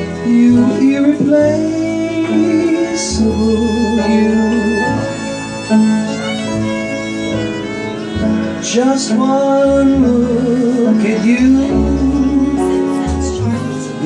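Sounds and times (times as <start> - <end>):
double bass: 0.0 - 14.0
upright piano chords: 0.0 - 14.0
violin slow melody with vibrato: 0.0 - 14.0.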